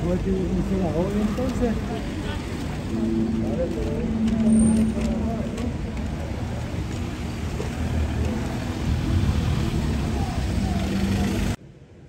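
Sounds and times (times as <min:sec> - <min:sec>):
vehicles driving past on cobbles: 0:00.0 - 0:11.6
street noise: 0:00.0 - 0:12.0.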